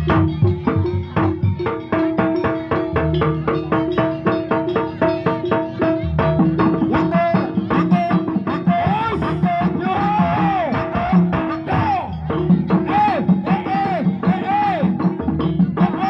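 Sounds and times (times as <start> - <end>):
hand drum strokes: 0.0 - 16.0.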